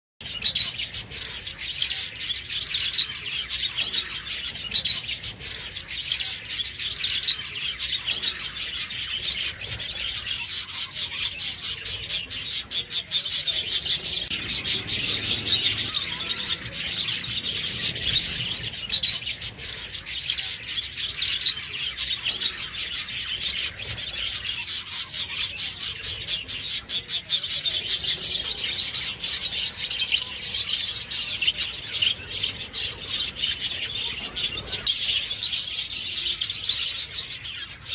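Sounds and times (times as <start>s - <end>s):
budgerigars chirping and chattering: 0.2s - 37.9s.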